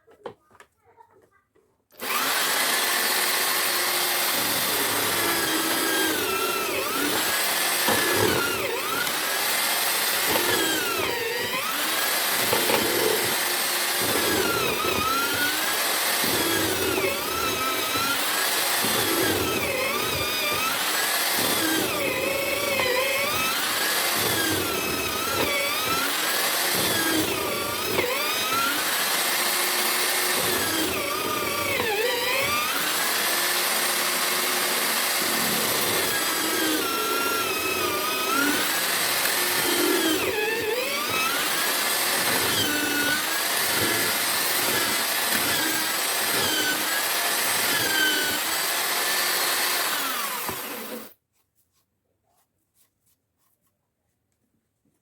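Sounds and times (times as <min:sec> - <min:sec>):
drill motor cutting wood: 0:02.0 - 0:51.2.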